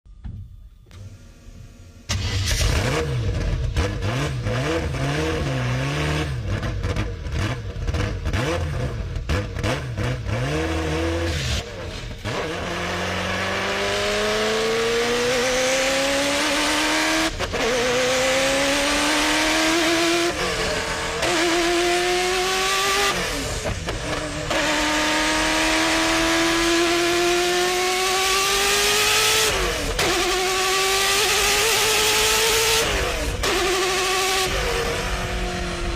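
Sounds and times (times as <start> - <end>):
car engine running rough: 1.0 - 35.9
car accelerating through gears: 2.1 - 35.9.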